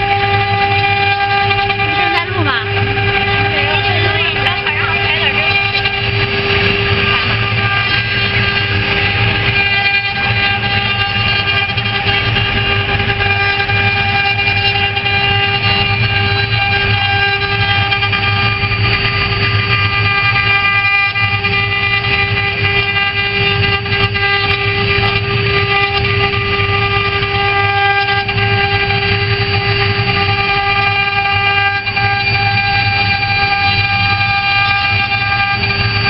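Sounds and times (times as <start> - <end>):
machine rumble: 0.0 - 36.0
router spindles whining: 0.0 - 36.0.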